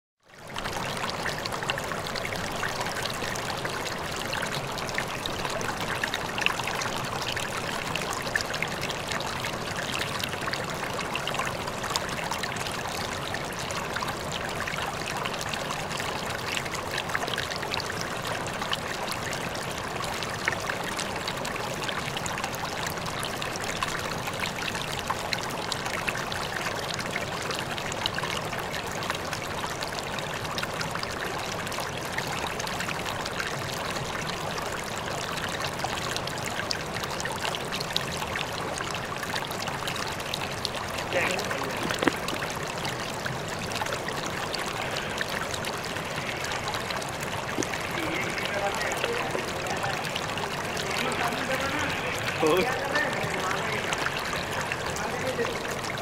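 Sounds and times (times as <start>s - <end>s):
running water: 0.3s - 56.0s.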